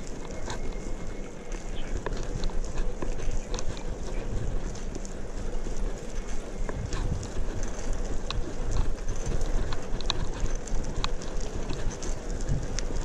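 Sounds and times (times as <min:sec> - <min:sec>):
bicycle tyres rumbling on concrete: 0:00.0 - 0:13.0
small clicks and rattles: 0:00.0 - 0:13.0
wind on microphone: 0:00.0 - 0:13.0.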